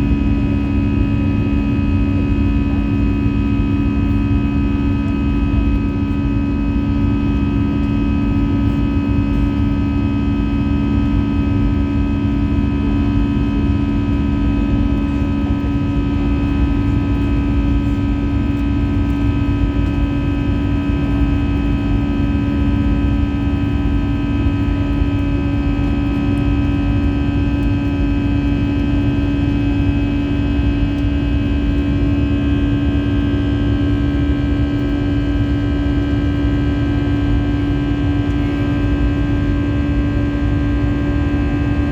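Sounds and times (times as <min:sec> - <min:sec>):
jet engine cabin drone: 0:00.0 - 0:41.9.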